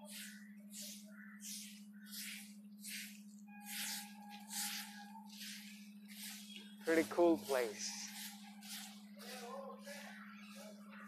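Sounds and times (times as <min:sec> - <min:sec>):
broom sweeping asphalt: 0:00.0 - 0:10.2.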